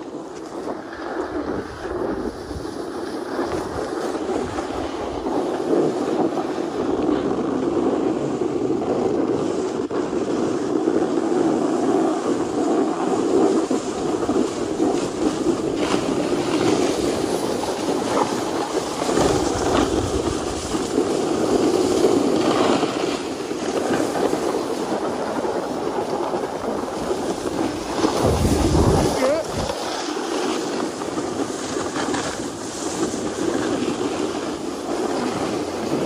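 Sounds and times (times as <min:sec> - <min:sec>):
snowboards scraping over snow: 0:00.0 - 0:36.0.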